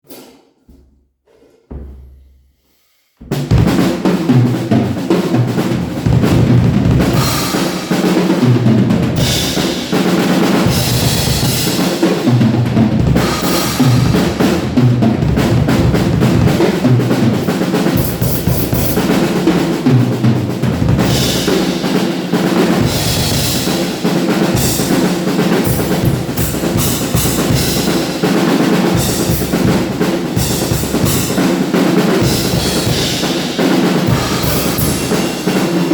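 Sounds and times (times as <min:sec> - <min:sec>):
drum kit playing: 0:00.0 - 0:02.3, 0:03.2 - 0:35.9.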